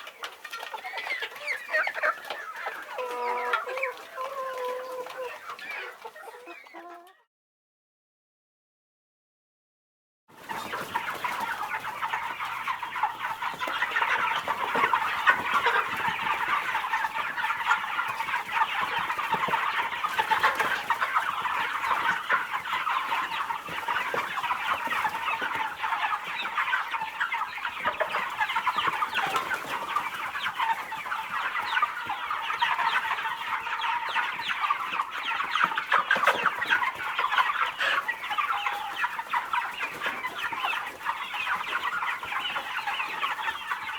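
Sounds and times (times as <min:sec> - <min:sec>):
chickens clucking: 0:00.0 - 0:07.3, 0:10.3 - 0:43.9.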